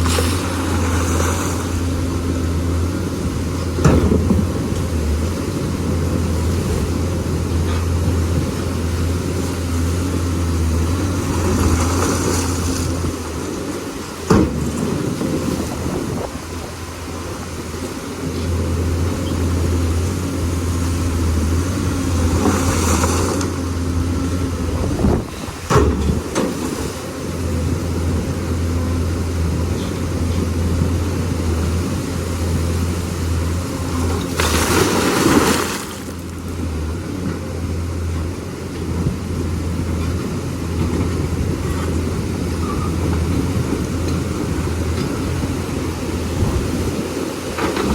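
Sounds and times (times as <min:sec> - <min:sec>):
excavator diesel engine humming: 0:00.0 - 0:47.9.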